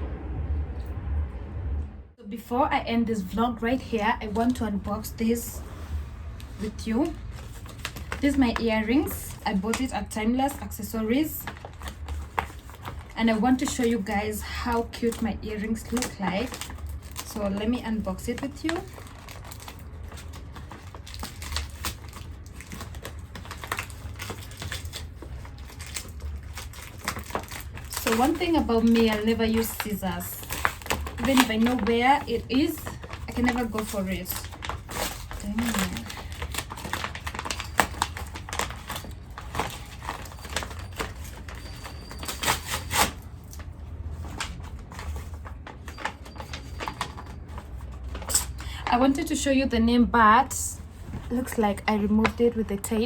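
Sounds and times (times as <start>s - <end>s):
packaging crinkling and tearing: 6.2s - 49.4s.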